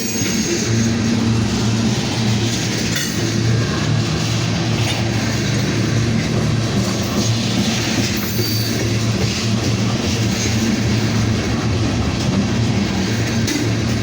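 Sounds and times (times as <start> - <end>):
freight train wheels rumbling on rails: 0.0 - 14.0.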